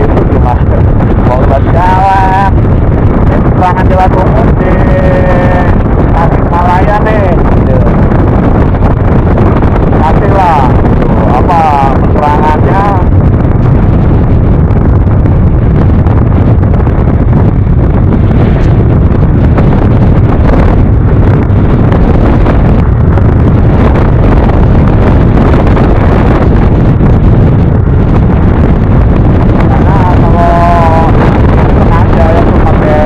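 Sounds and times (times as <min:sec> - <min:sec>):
low rumble: 0:00.0 - 0:33.0
wind rush on microphone: 0:00.0 - 0:33.0.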